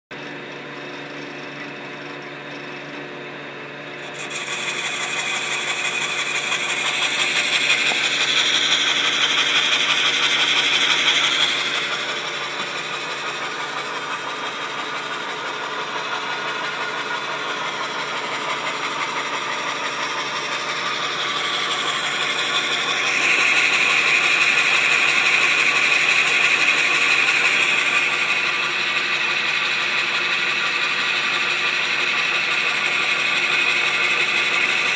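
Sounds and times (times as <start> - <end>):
lathe motor hum: 0.2 - 34.9
tool cutting wood: 3.7 - 34.9.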